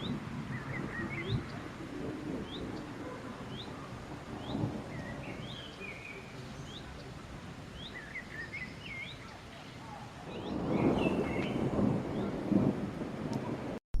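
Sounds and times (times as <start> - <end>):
small birds chirping: 0.0 - 12.6
low rumble of thunder: 0.0 - 13.8.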